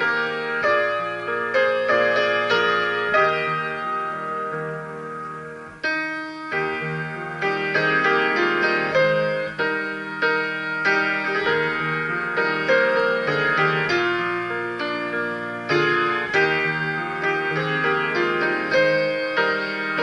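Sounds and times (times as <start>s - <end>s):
keyboard piano music: 0.0s - 20.0s.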